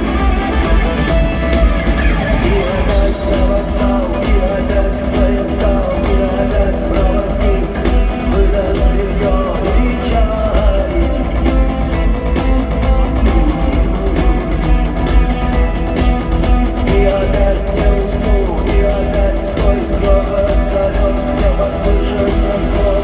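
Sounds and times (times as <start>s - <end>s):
electric guitar: 0.0s - 23.0s
rock band playing live: 0.0s - 23.0s
person singing: 2.3s - 12.4s, 13.1s - 15.5s, 16.7s - 23.0s.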